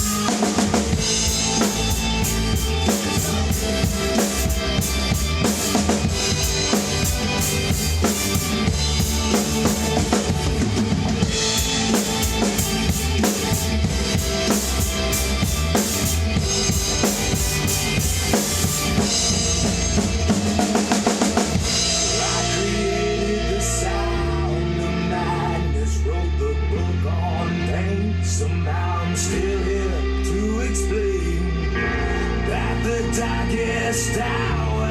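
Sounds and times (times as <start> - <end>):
rock drum kit: 0.0 - 25.9, 31.6 - 34.9
guitar and bass: 0.0 - 34.9.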